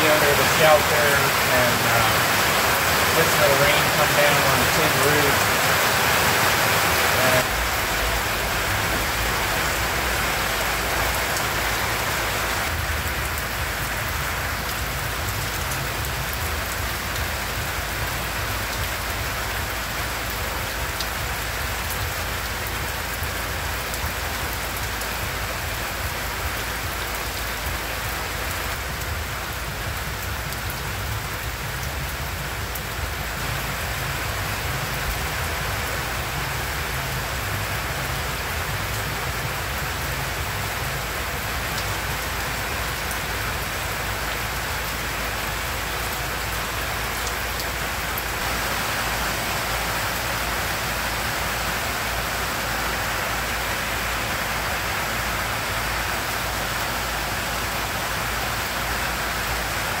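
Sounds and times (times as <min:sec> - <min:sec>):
rain on a tin roof: 0:00.0 - 1:00.0.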